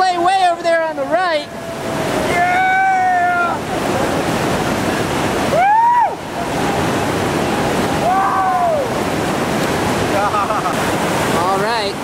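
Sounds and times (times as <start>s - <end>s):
whitewater rapid rushing: 0.0s - 12.0s.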